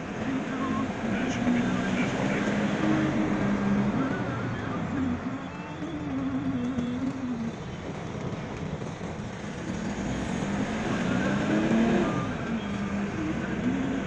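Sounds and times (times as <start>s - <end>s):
car engine: 0.0s - 14.0s
road noise: 0.0s - 14.0s.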